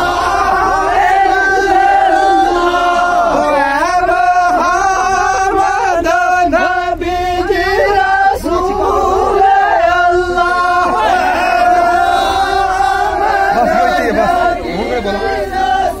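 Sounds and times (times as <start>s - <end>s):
men singing in unison: 0.0s - 16.0s.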